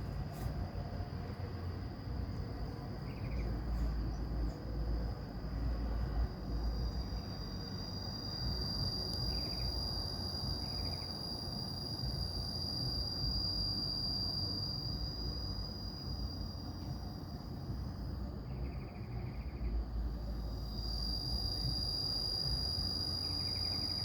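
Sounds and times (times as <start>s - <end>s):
insects trilling: 1.0s - 24.0s.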